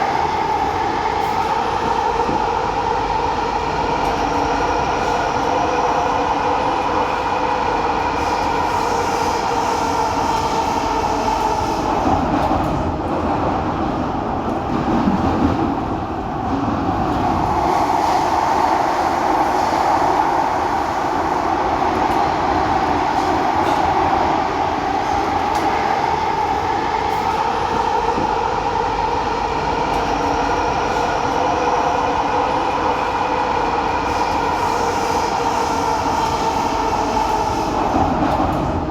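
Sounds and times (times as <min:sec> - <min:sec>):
train rumble and rattle: 0:00.0 - 0:38.9.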